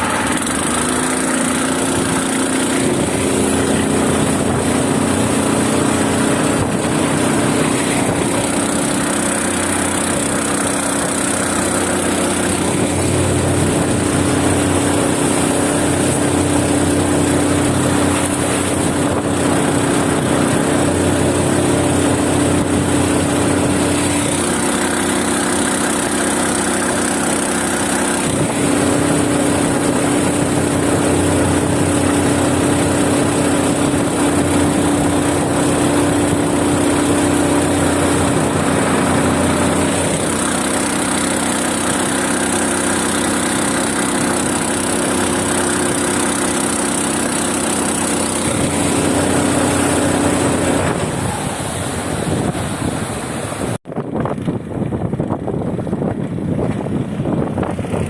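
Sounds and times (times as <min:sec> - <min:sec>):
boat motor running under load: 0:00.0 - 0:58.0.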